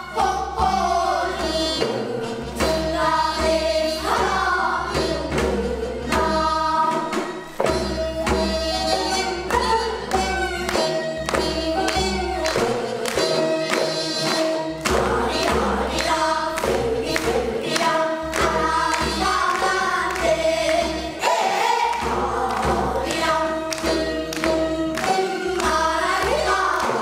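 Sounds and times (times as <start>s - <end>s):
children's choir singing: 0.0s - 27.0s
percussion beating rhythm: 0.0s - 27.0s.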